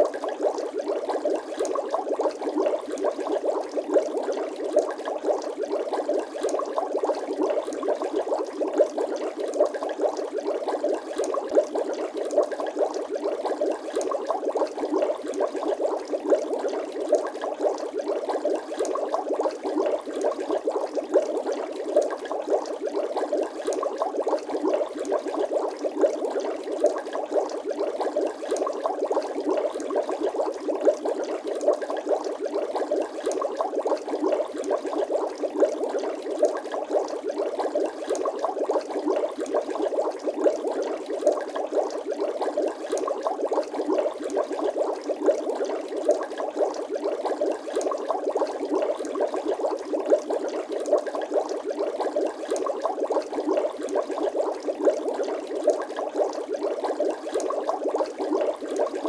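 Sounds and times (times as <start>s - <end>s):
water bubbling: 0.0s - 59.0s.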